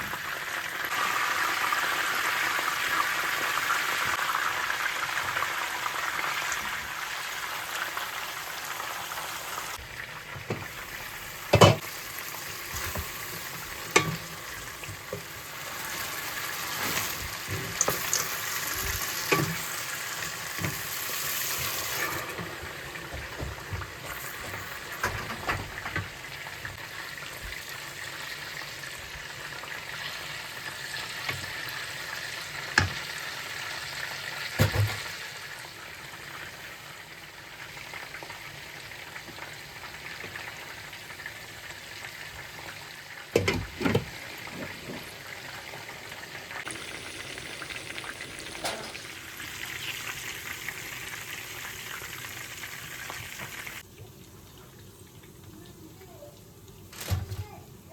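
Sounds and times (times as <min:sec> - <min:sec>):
food sizzling in a frying pan: 0:00.0 - 0:57.9.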